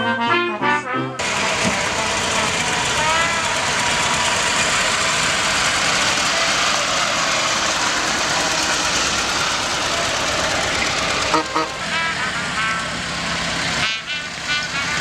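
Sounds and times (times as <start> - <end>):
vehicle engine idling: 1.2 - 15.0.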